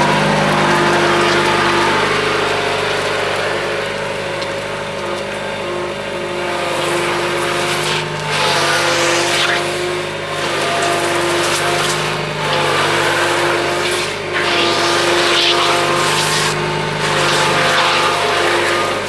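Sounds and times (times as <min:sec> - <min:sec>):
loader engine running: 0:00.0 - 0:19.0.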